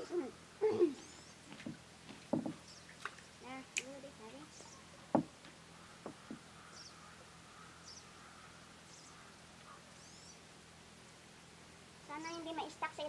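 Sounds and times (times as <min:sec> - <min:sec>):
small bird chirping: 0:00.0 - 0:10.6.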